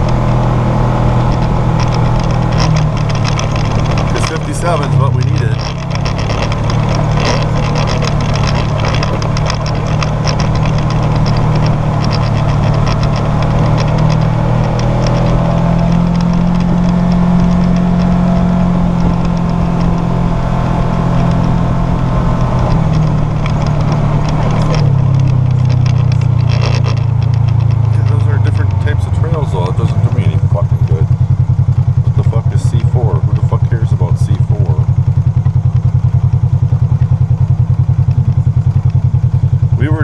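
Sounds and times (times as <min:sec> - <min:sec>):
utility vehicle engine running: 0:00.0 - 0:40.0
fast light rattle: 0:01.1 - 0:40.0.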